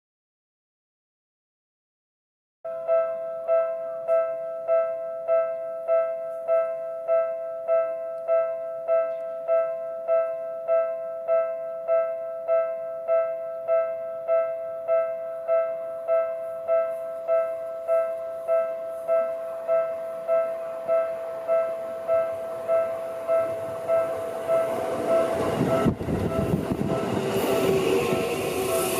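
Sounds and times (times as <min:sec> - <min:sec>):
level crossing warning bell: 0:02.7 - 0:28.9
approaching train: 0:02.9 - 0:28.9.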